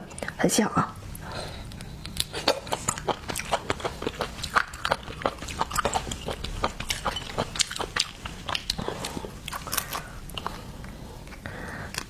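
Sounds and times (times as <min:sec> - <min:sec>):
person chewing wetly: 0:01.0 - 0:12.0.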